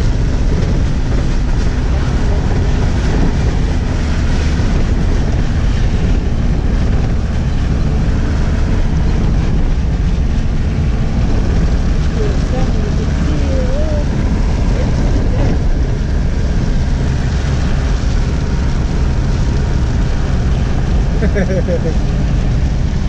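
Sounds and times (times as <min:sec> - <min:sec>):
vehicle rumbling on dirt road: 0:00.0 - 0:23.0
wind buffeting microphone: 0:00.0 - 0:23.0.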